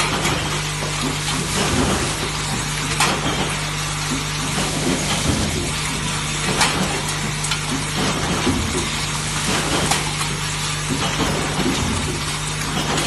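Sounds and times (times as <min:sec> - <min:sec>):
welding machine humming: 0:00.0 - 0:13.0.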